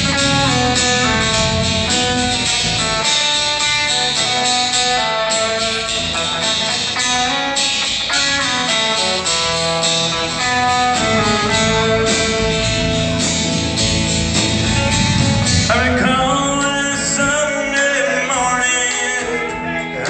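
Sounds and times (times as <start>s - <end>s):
bass: 0.0s - 20.0s
drums: 0.0s - 20.0s
lead guitar: 0.0s - 20.0s
strummed acoustic guitar: 0.0s - 20.0s.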